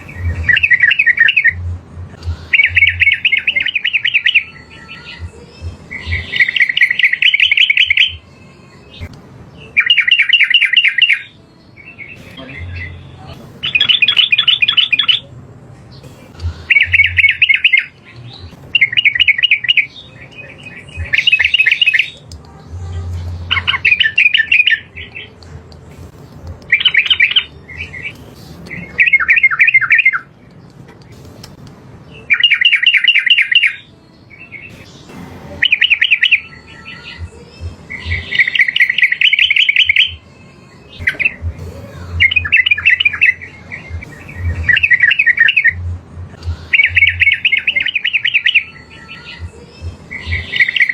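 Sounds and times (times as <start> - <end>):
bird singing warbled phrases: 0.0 - 50.9.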